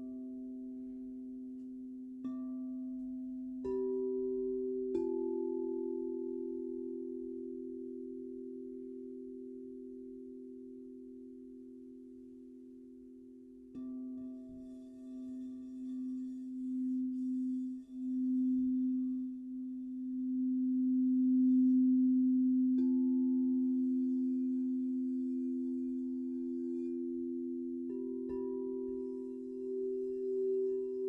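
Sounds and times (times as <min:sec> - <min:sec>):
crystal singing bowls ringing: 0:00.0 - 0:31.0.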